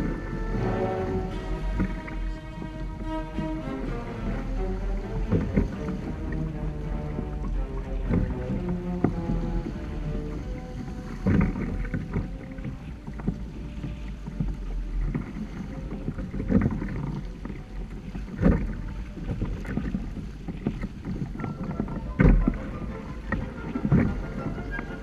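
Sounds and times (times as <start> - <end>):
water slapping against boat hull: 0.0 - 25.0.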